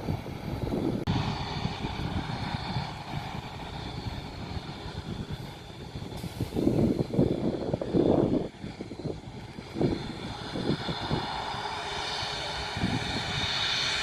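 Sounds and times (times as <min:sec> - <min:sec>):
aircraft engine rumble: 0:00.0 - 0:14.0
wind buffeting microphone: 0:00.0 - 0:14.0.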